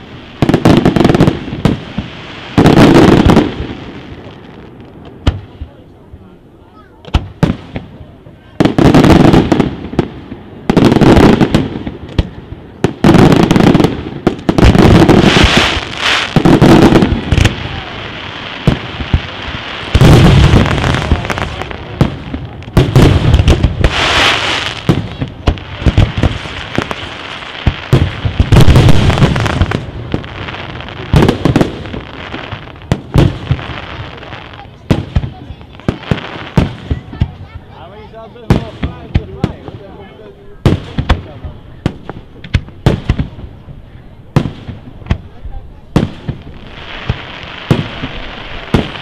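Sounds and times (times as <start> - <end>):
firework booms: 0.0 - 6.3, 7.0 - 37.8, 38.4 - 40.0, 40.6 - 49.0
firework crackling: 0.0 - 49.0.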